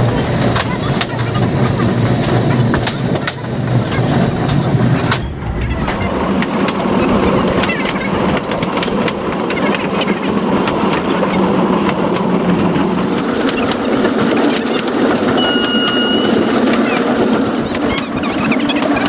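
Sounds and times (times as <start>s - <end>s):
train rumbling: 0.0s - 19.0s
wheels clattering on rails: 0.0s - 19.0s.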